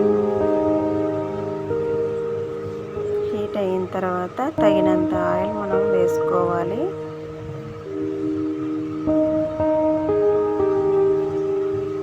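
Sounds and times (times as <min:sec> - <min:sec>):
soft sustained music chords: 0:00.0 - 0:12.0.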